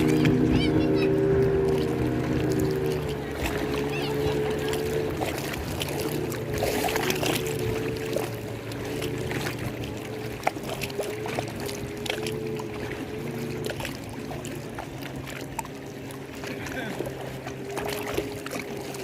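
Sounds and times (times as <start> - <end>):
small splashes: 0.0 - 19.0
water lapping and sloshing: 0.0 - 19.0.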